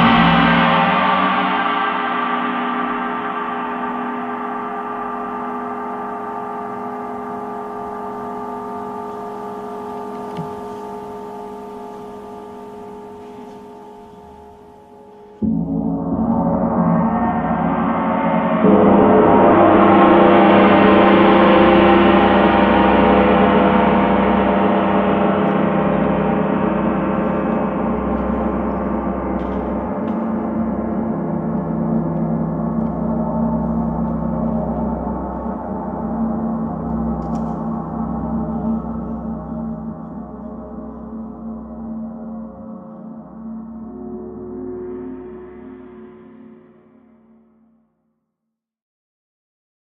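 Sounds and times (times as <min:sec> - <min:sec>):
gong ringing: 0:00.0 - 0:46.6.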